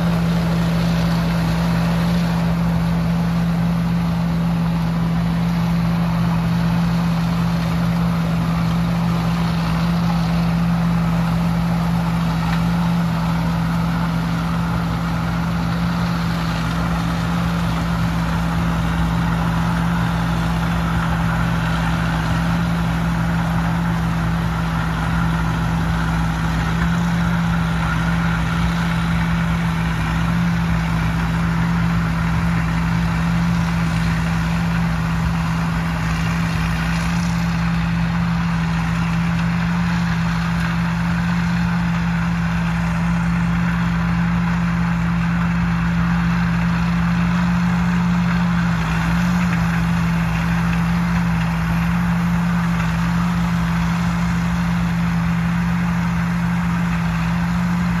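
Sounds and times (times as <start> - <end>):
heavy engine droning: 0.0 - 58.0.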